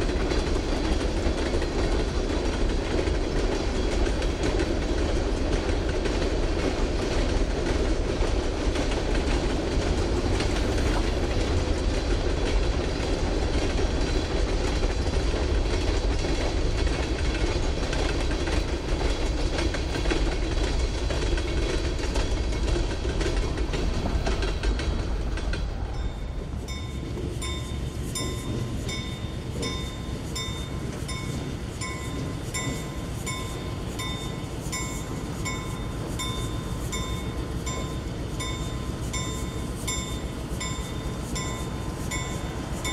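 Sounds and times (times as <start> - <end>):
train wheels clattering: 0.0 - 42.9.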